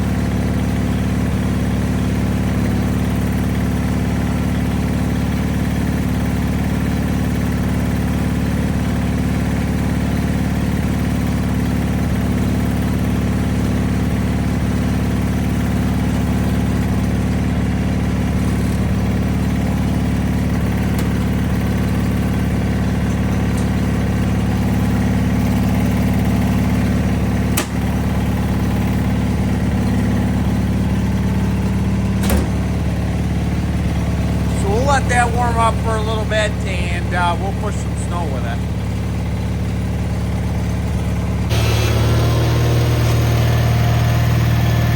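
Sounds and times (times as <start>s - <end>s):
tractor engine idling: 0.0s - 44.9s.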